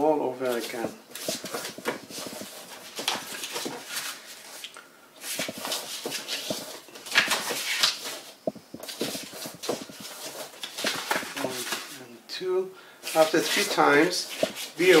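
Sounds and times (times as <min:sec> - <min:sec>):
paper being folded and creased: 0:00.4 - 0:12.0, 0:13.0 - 0:15.0.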